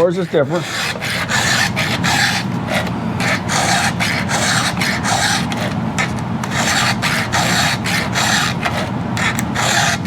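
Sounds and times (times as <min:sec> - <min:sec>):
file rasping on chain teeth: 0:00.0 - 0:10.0.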